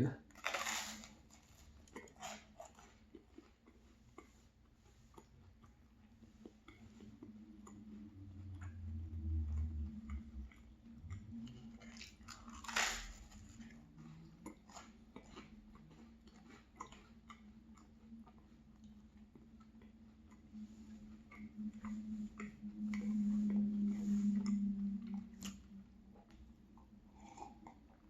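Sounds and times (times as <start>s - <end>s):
chewing crunchy bread: 0.2s - 28.0s.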